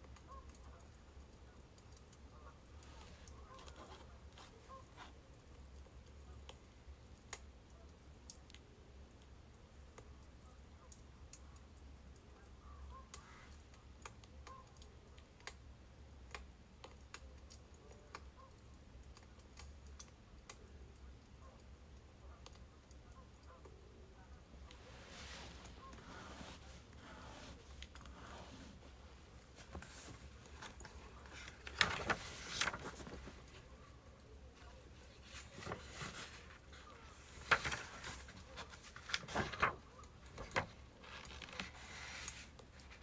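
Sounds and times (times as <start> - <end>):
logs crackling and popping: 0.0 - 43.0
low steady hum: 0.0 - 43.0.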